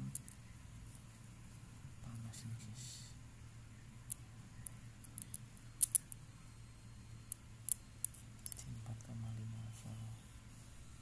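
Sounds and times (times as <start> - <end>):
power supply electrical hum: 0.0 - 11.0.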